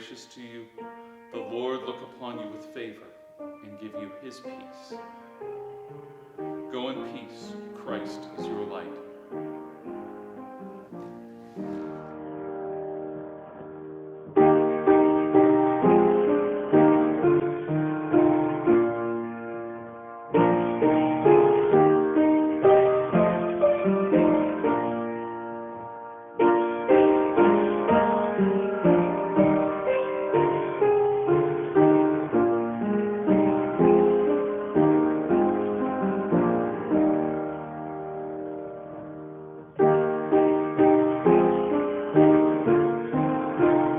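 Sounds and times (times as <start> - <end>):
piano music: 0.0 - 43.9.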